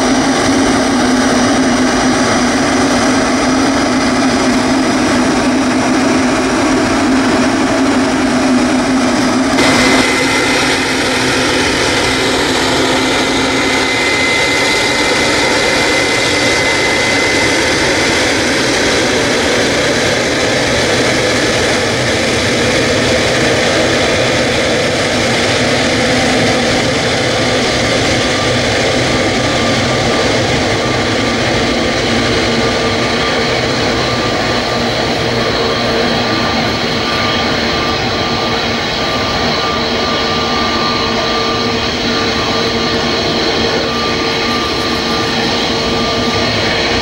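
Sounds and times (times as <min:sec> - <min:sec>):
jet engine rumble with high whine: 0:00.0 - 0:47.0.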